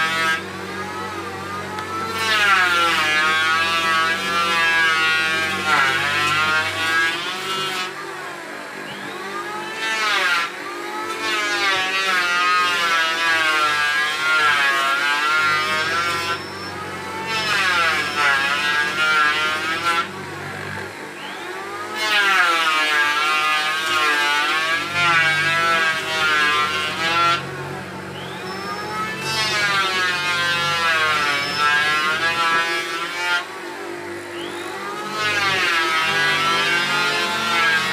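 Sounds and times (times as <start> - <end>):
chisel mortising machine running: 0.0 - 37.9.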